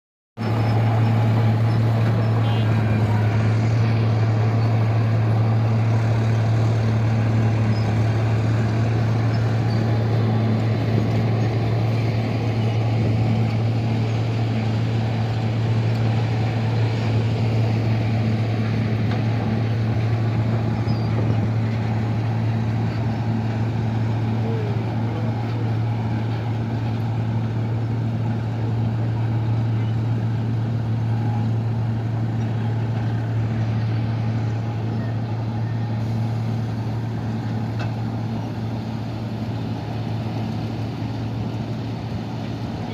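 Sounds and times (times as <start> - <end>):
excavator diesel engine droning: 0.4 - 42.9.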